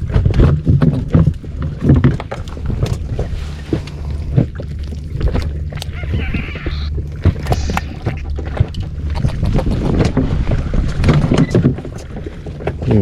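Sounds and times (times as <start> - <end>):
steady low hum: 0.0 - 13.0
water slapping against boat: 0.0 - 13.0.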